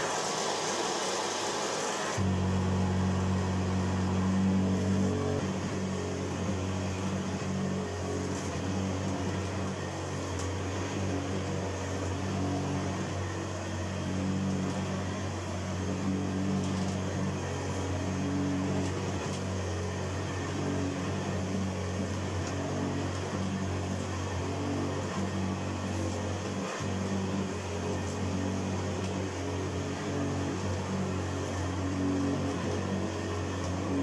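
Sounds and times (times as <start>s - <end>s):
upright vacuum cleaner on carpet: 0.0s - 34.0s.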